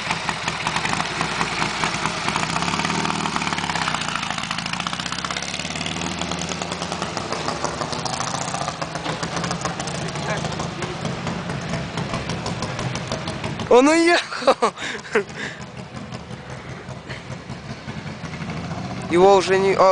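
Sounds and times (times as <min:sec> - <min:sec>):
motorcycle engine running: 0:00.0 - 0:14.0, 0:14.7 - 0:19.9.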